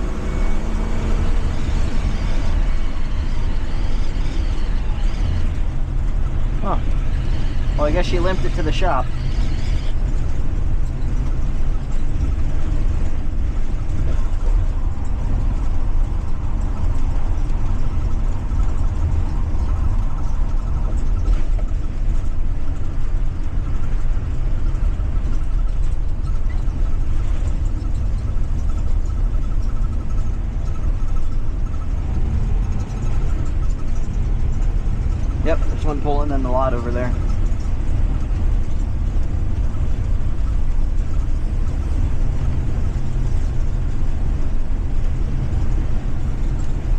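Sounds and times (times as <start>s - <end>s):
bus engine rumble: 0.0s - 46.9s
road noise: 0.0s - 46.9s.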